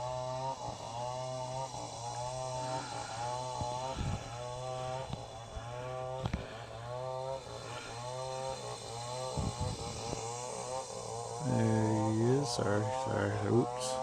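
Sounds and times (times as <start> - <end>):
small engine whining: 0.0 - 14.0
steady low hum: 0.0 - 14.0.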